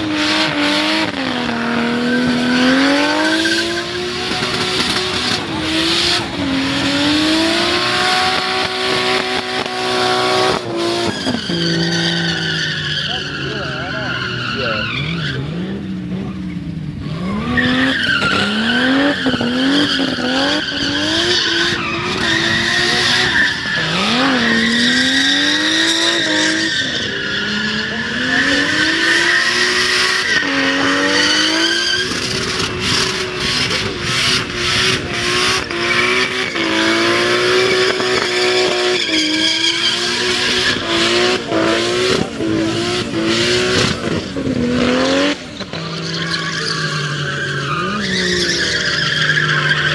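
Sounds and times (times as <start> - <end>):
car engine revving hard: 0.0 - 49.9
tyres squealing: 7.7 - 15.8, 16.4 - 44.5, 45.1 - 49.9.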